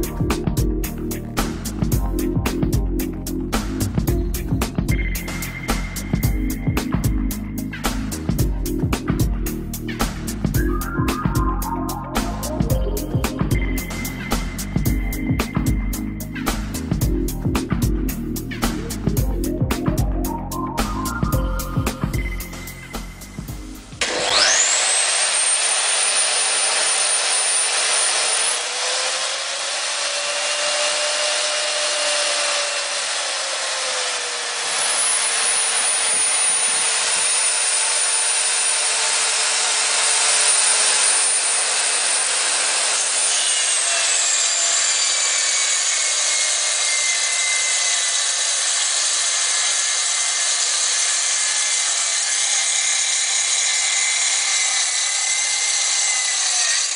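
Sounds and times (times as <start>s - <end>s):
mitre saw whining: 3.6s - 8.4s, 9.5s - 17.0s, 19.8s - 56.9s.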